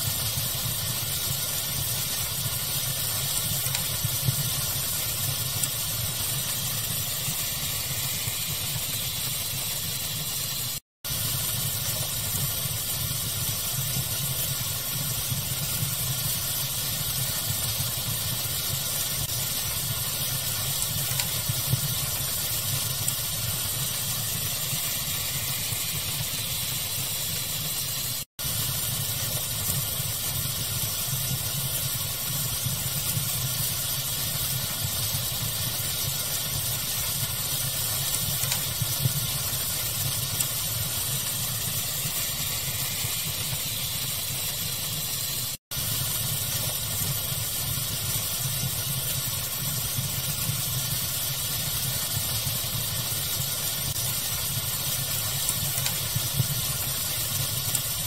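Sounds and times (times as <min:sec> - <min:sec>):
steady hiss: 0:00.0 - 0:58.0
wood fire crackling: 0:00.0 - 0:58.0.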